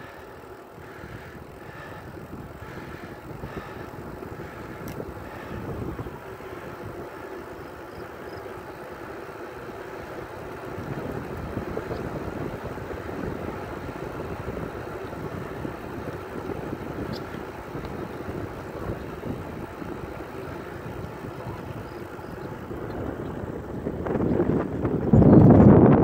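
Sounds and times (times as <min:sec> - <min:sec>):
bicycle rolling on asphalt: 0:00.0 - 0:26.0
wind buffeting microphone: 0:00.7 - 0:26.0.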